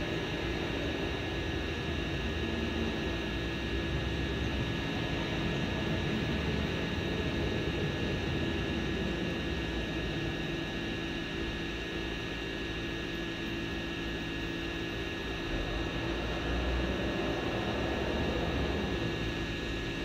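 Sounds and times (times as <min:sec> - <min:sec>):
drone rotors humming: 0:00.0 - 0:20.0.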